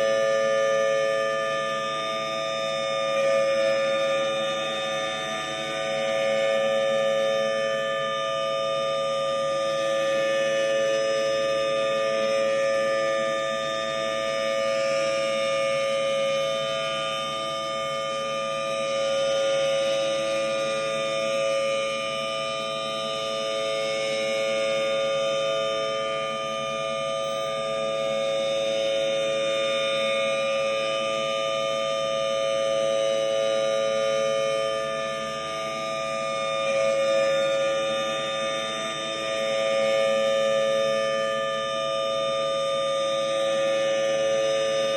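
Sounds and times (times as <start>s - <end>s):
outdoor warning siren steady tone: 0.0s - 44.9s.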